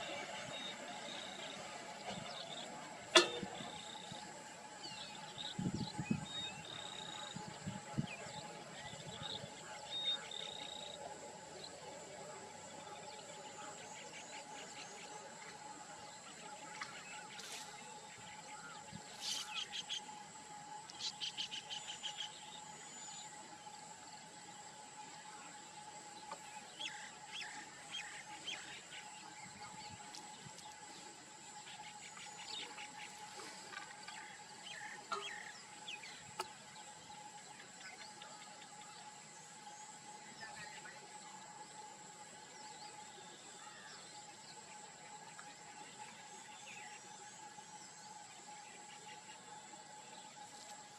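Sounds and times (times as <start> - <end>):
birds chattering trills and chirps: 0.0 - 50.9
high insect drone: 0.0 - 50.9.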